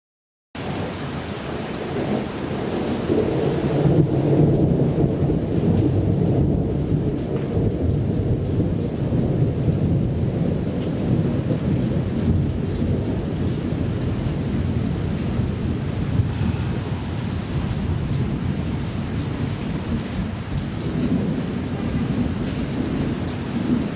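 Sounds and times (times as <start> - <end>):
thunder rumbling: 0.6 - 23.9.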